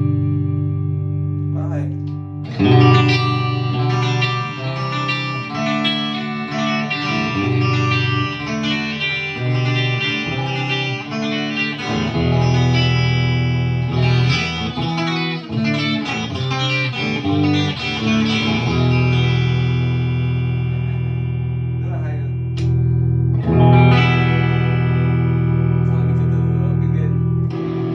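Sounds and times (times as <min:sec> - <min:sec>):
electric guitar playing: 0:00.0 - 0:27.9.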